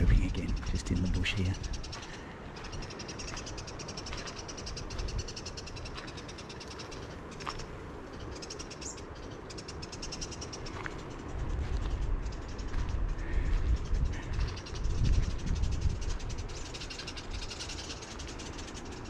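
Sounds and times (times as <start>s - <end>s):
birds alarm chatter: 0.0s - 19.0s.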